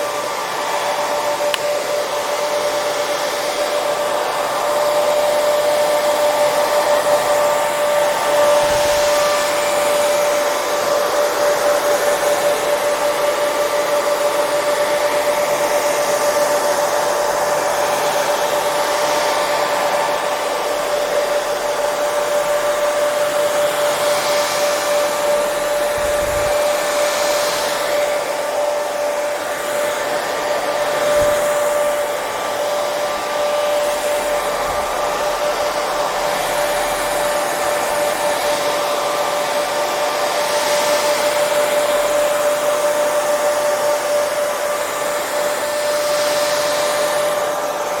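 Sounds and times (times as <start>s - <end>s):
hair dryer running: 0.0s - 48.0s.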